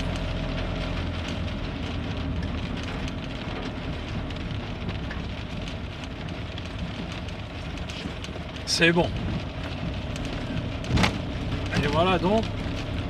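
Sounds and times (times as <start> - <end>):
engine and road hum: 0.0 - 13.0
rain hitting windshield: 0.0 - 13.0
ticks of raindrops: 0.0 - 13.0.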